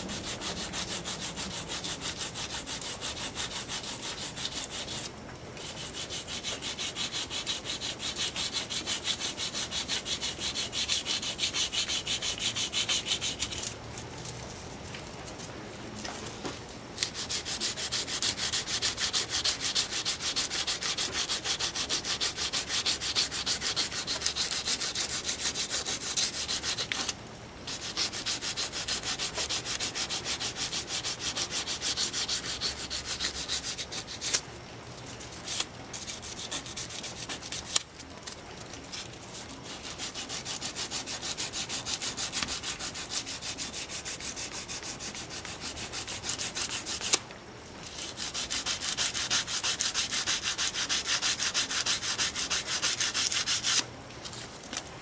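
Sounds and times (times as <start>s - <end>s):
sandpaper rubbing on metal: 0.0s - 13.7s, 17.0s - 27.1s, 27.7s - 34.4s, 35.4s - 37.8s, 39.0s - 47.2s, 47.9s - 53.8s.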